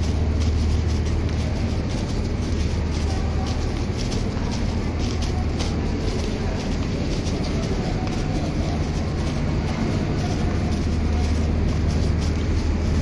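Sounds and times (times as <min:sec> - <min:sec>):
diesel train engine humming: 0:00.0 - 0:13.0.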